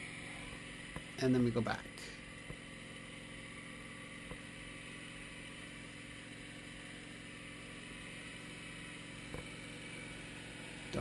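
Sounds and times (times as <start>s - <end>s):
sawmill gas engine running: 0.0s - 11.0s.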